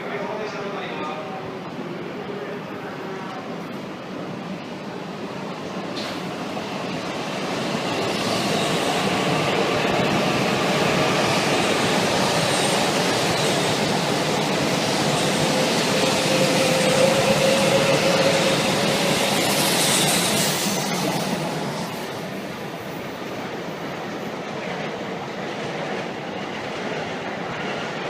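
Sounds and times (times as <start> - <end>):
train rolling past: 0.0 - 28.0.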